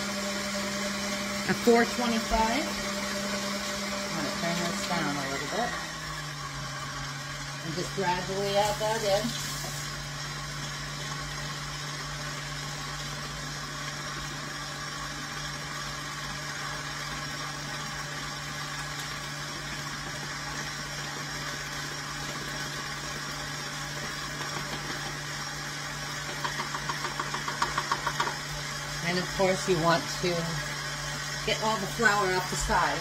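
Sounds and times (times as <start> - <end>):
stand mixer motor hum: 0.0 - 33.0.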